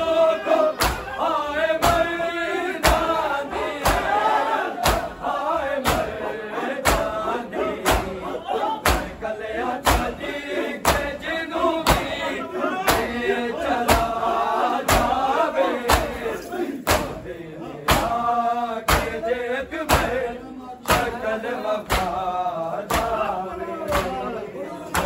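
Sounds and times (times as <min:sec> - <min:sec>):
crowd of men chanting: 0:00.0 - 0:25.0.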